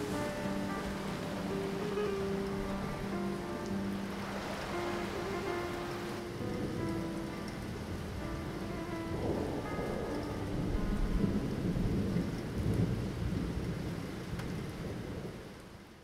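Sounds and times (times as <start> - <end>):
thunder rumbling: 0.0 - 15.6
steady rain: 0.0 - 16.0.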